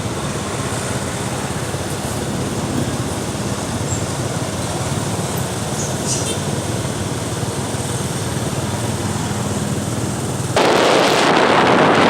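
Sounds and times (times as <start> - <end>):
road traffic engines running: 0.0 - 12.0.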